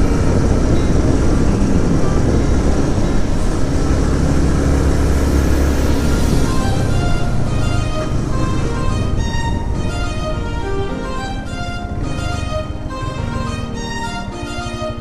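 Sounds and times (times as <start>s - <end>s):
motorcycle engine rumble: 0.0s - 15.0s
rushing noise: 0.0s - 15.0s.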